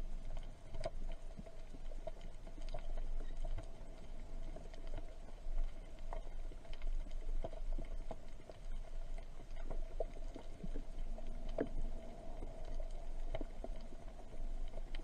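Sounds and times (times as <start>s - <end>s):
clicks and crackles: 0.0s - 15.0s
faint hum: 0.0s - 15.0s
low underwater rumble: 0.0s - 15.0s.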